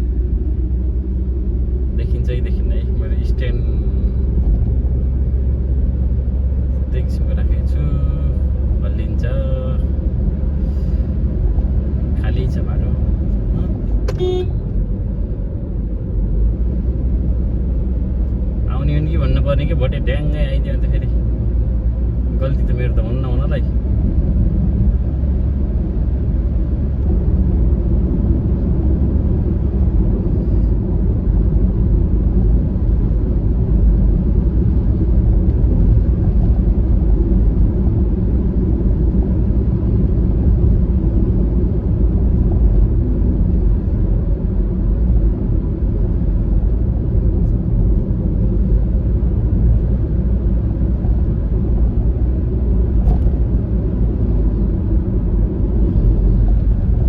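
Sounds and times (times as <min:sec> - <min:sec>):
car cabin road and engine rumble: 0:00.0 - 0:57.0.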